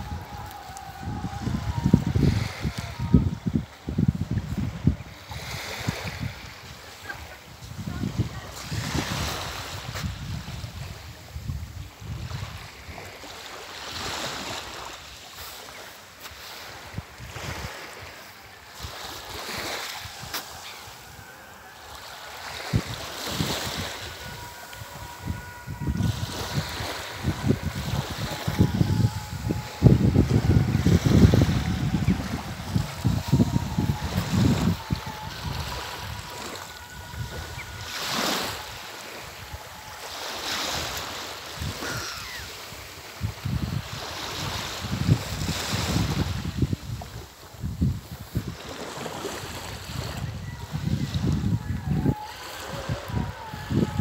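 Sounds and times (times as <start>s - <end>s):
wind rumble on microphone: 0.0s - 14.5s, 18.8s - 54.0s
waves lapping on pebbly shore: 0.0s - 54.0s.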